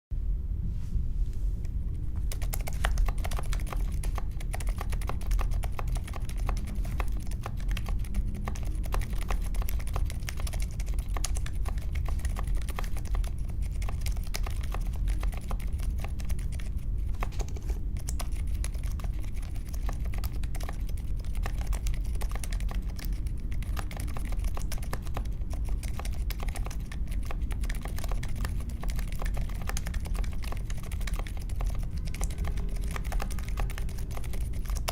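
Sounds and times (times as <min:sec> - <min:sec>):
steady low hum: 0:00.1 - 0:34.9
mechanical keyboard typing: 0:02.2 - 0:34.9.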